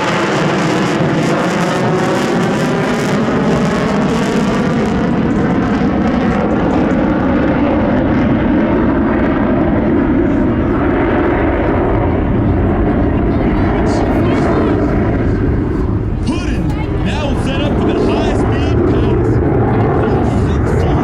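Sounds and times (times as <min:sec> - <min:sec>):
jet engine flying past: 0:00.0 - 0:21.0.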